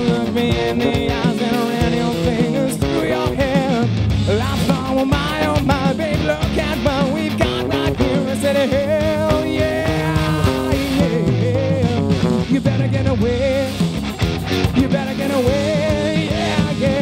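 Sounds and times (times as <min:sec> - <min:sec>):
man singing: 0:00.0 - 0:17.0
rock band playing live: 0:00.0 - 0:17.0.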